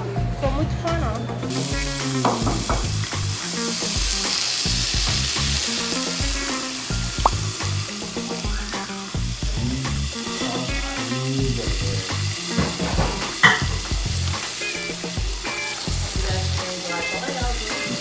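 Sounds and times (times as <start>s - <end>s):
shrimp sizzling in a pan: 1.5s - 18.0s.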